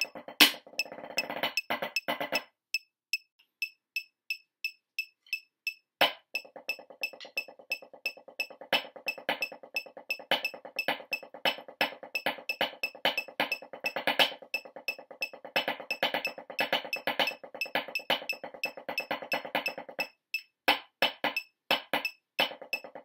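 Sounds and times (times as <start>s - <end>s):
drumsticks on practice pad: 0.0s - 20.5s
metronome ticking: 0.0s - 23.0s.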